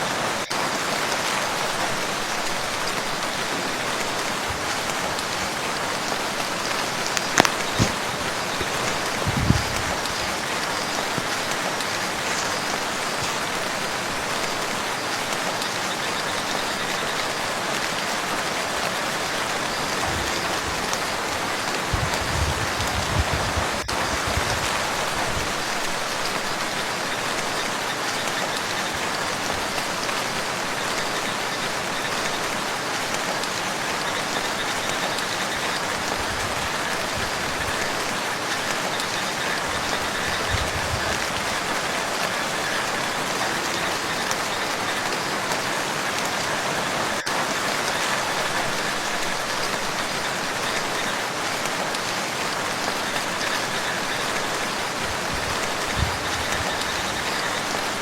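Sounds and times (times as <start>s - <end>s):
rain falling on a lake: 0.0s - 58.0s.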